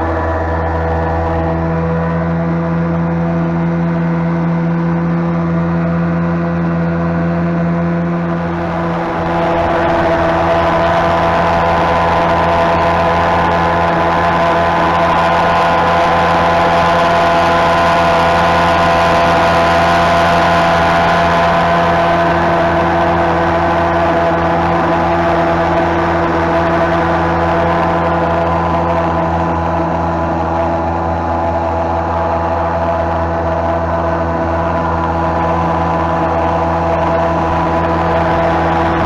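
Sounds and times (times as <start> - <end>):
outboard motor droning: 0.0 - 39.0.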